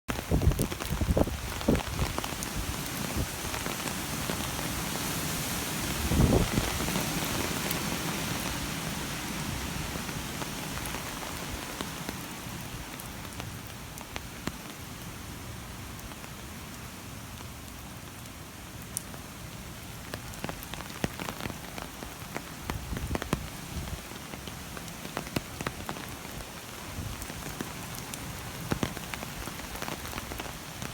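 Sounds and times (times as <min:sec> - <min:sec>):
rain falling: 0:00.1 - 0:30.9.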